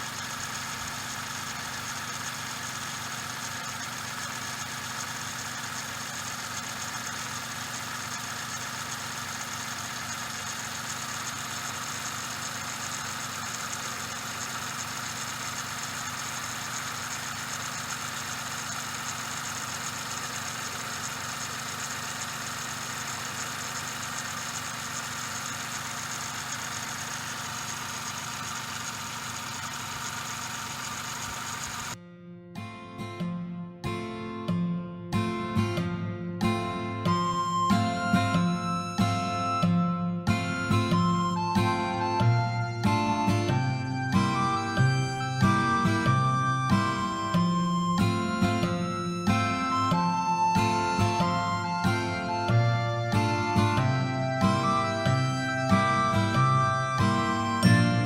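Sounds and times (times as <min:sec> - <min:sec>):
hissing belt pulley whir: 0:00.0 - 0:32.0, 0:37.1 - 0:58.0
small engine idling: 0:00.0 - 0:32.0, 0:35.8 - 0:58.0.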